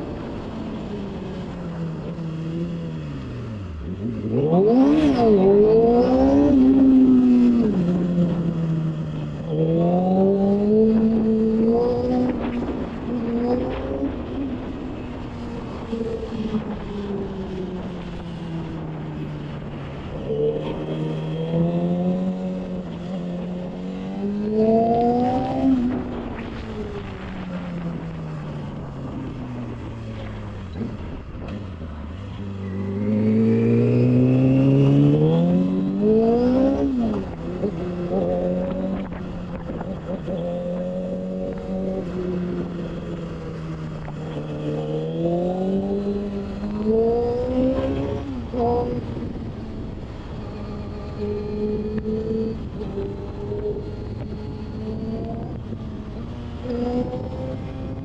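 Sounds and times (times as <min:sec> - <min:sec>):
motorcycle engine revving: 0:00.8 - 0:58.0
wind on microphone: 0:03.5 - 0:58.0.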